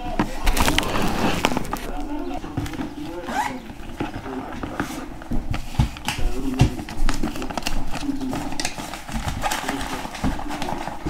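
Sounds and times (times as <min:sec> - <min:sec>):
indistinct voices: 0:00.0 - 0:11.0.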